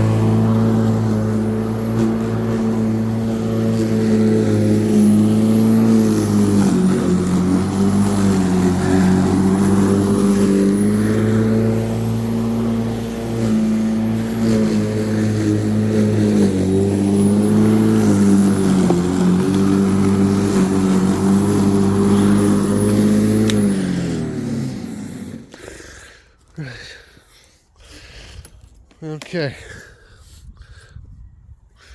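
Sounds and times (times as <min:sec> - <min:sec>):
electric lawnmower cutting grass: 0:00.0 - 0:25.6.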